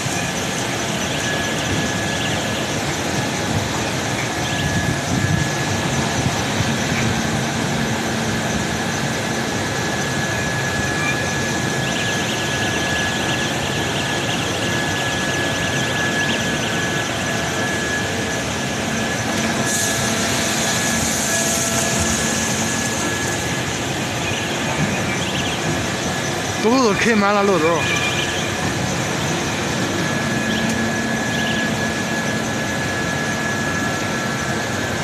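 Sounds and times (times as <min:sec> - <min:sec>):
heavy construction machinery running: 0:00.0 - 0:35.0
high mechanical whine: 0:00.0 - 0:35.0.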